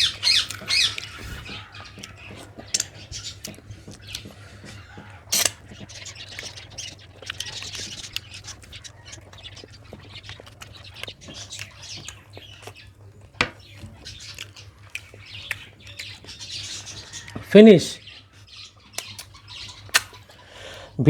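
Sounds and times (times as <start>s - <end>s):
wet chewing and lip-smacking: 0.0s - 17.5s, 18.1s - 20.5s.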